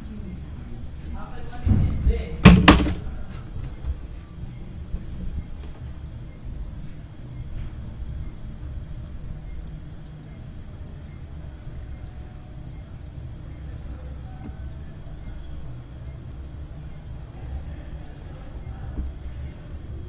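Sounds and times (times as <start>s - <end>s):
insect chirping: 0.0s - 20.0s
low background rumble: 0.0s - 20.0s.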